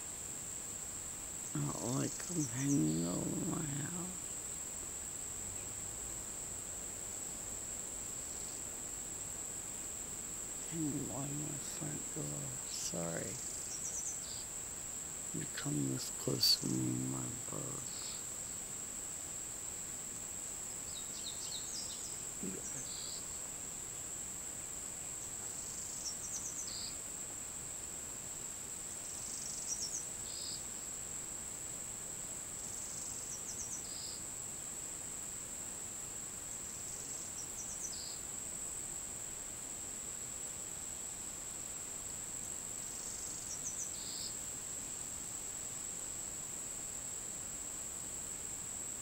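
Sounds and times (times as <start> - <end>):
insects droning: 0.0 - 49.0.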